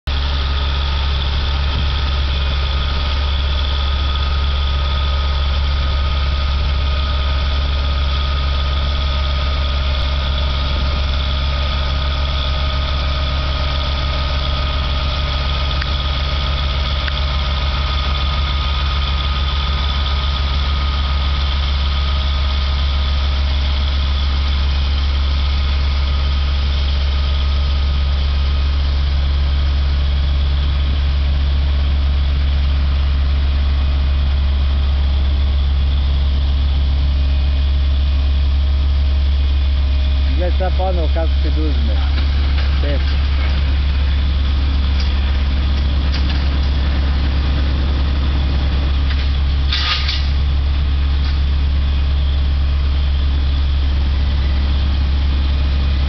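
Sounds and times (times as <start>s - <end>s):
diesel engine droning: 0.0s - 56.0s
thin steady whine: 0.1s - 56.0s.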